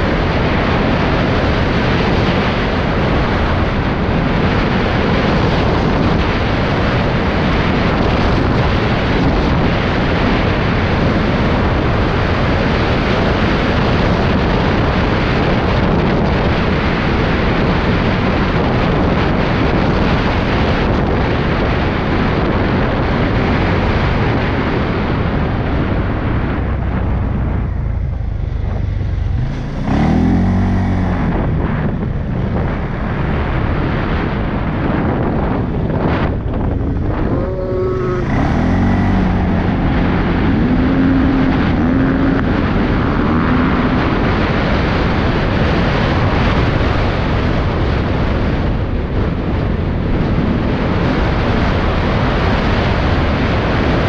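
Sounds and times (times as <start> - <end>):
engine running: 0.0 - 54.0
wind rushing on microphone: 0.0 - 54.0.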